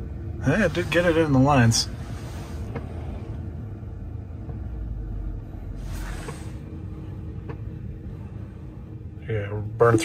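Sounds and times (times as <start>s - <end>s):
low car cabin rumble: 0.0s - 10.0s.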